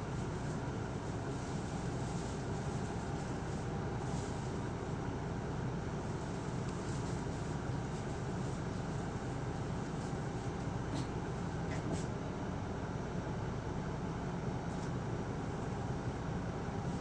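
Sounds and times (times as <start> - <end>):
bus interior engine hum: 0.0 - 17.0.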